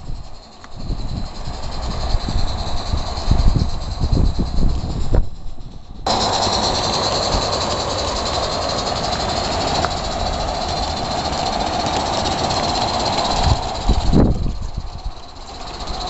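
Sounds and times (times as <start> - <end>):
model train wheels on rails: 0.0 - 16.0
steam hissing: 0.0 - 16.0.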